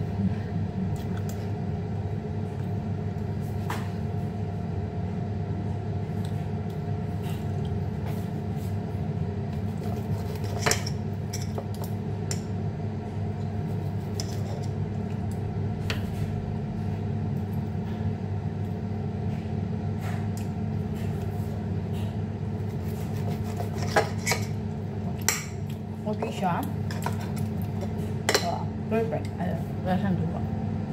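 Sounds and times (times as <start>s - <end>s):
appliance humming: 0.0s - 30.9s.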